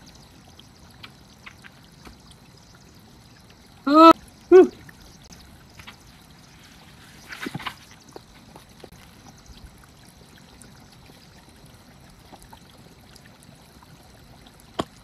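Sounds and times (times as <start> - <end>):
water trickling down rock: 0.0 - 15.0.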